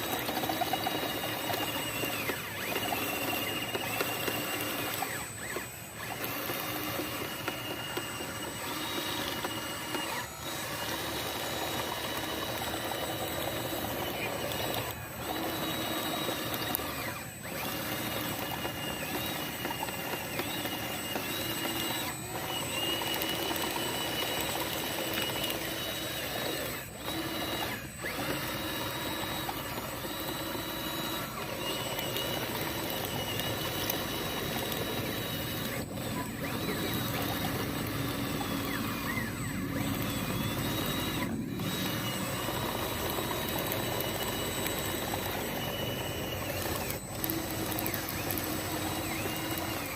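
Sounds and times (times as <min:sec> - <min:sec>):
small electric motors whirring: 0:00.0 - 0:49.9.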